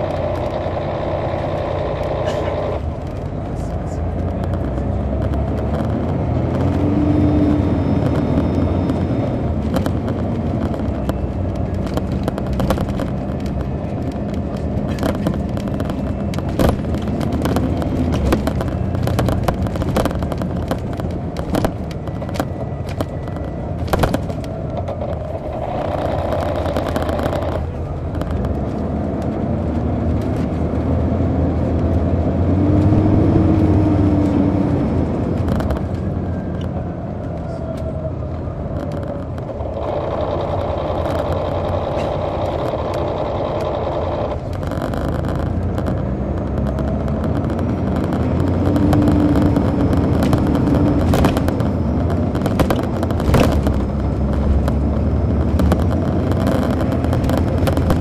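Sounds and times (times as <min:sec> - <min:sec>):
knocks and rattles: 0:00.0 - 0:31.0, 0:32.6 - 0:37.4, 0:38.7 - 0:58.0
bus engine pulling: 0:00.0 - 0:58.0.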